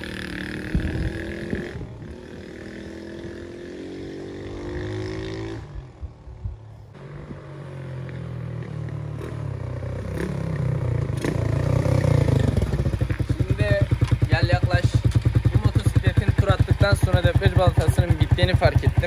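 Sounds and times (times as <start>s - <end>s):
motorcycle engine running: 0.0s - 6.1s, 7.0s - 19.0s.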